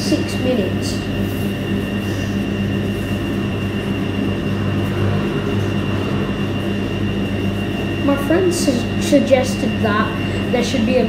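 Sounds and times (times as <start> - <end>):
faint high whine: 0.0 - 10.4
washing machine running: 0.0 - 11.0.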